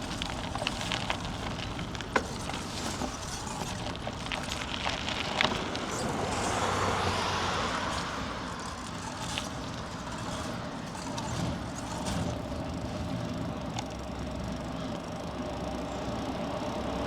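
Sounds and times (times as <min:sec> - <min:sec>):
bicycle clicks and rattles: 0:00.0 - 0:17.0
bicycle tyre noise: 0:00.0 - 0:17.0.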